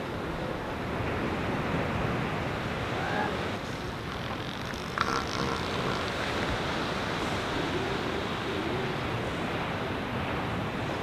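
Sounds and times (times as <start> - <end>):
ocean surf on beach: 0.0 - 11.0.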